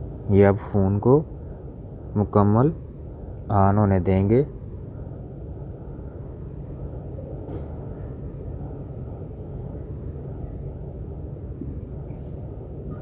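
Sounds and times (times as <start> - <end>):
high-pitched pulsing whine: 0.0 - 13.0
low background rumble: 0.0 - 13.0.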